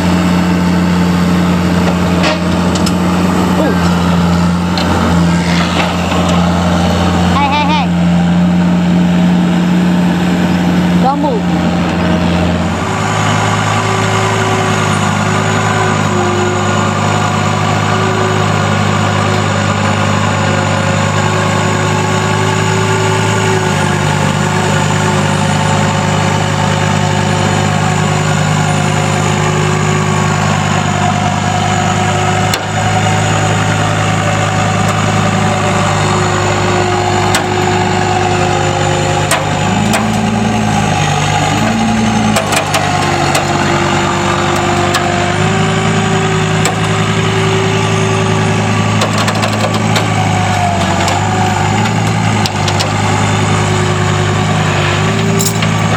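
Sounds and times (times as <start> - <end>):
vehicle engine running steadily: 0.0 - 55.9.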